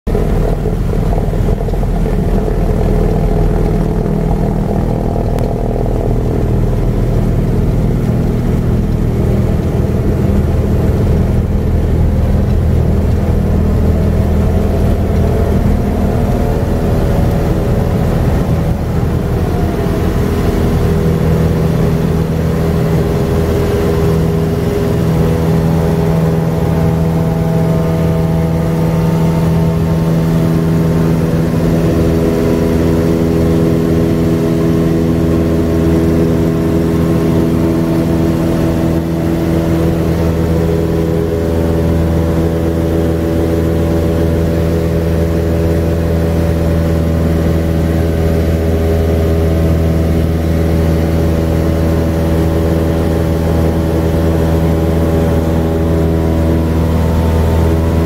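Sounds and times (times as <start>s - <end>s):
light aircraft engine and propeller: 0.1s - 58.0s.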